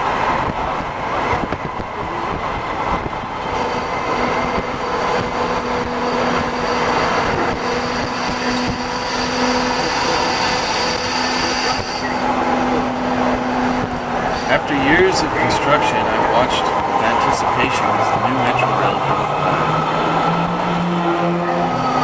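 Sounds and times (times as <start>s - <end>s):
train hum: 0.0s - 22.0s
train rushing past: 0.0s - 22.0s.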